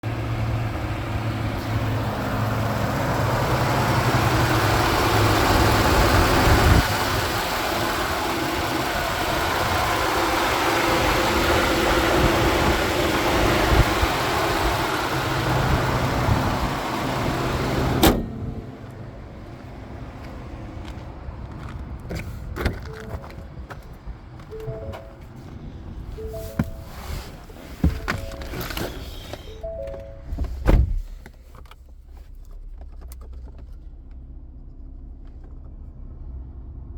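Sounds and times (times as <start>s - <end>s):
pickup engine running: 0.0s - 36.9s.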